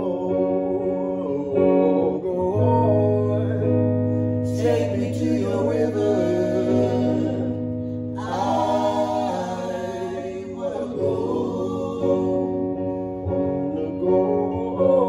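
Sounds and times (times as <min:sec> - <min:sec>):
guitar accompaniment: 0:00.0 - 0:15.0
voices singing in harmony: 0:00.0 - 0:15.0.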